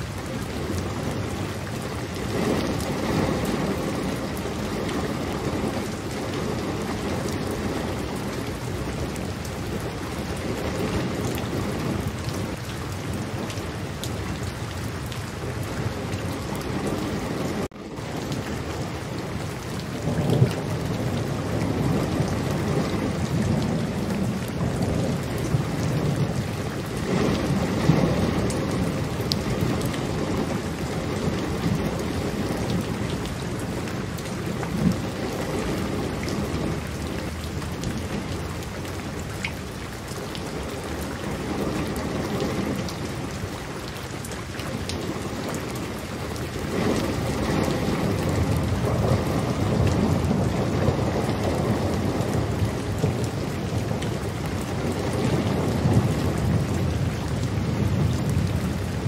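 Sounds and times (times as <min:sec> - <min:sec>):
steady rain falling: 0:00.0 - 0:59.0
thunder rumbling: 0:00.0 - 0:59.0.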